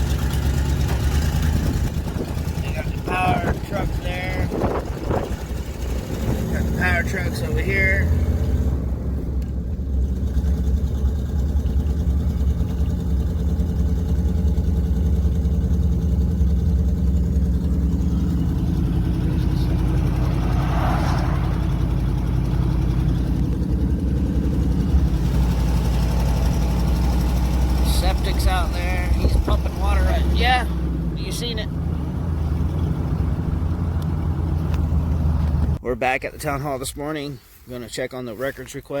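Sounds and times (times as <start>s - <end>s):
vehicle engine humming: 0.0s - 35.8s.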